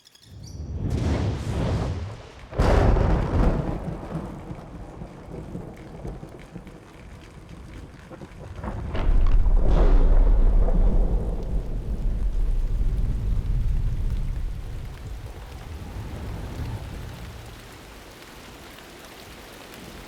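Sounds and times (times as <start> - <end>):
thunder crack and rumble: 0.4 - 18.6.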